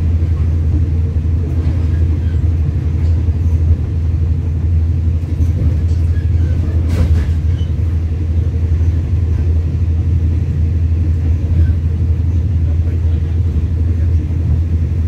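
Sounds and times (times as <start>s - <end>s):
train rumbling inside coach: 0.0s - 15.0s.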